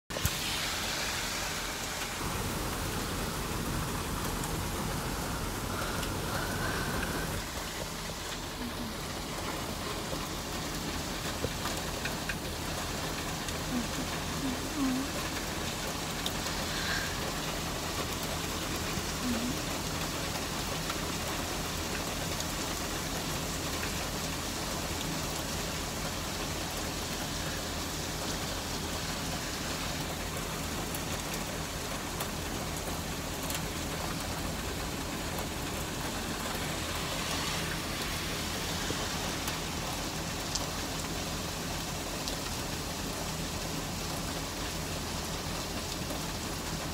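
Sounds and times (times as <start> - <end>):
heavy rain hissing: 0.1 - 46.9.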